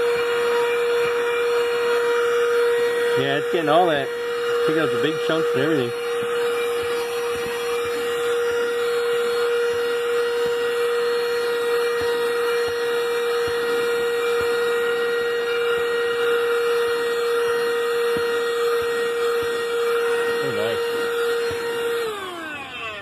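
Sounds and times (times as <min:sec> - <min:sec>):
handheld vacuum whining: 0:00.0 - 0:23.0.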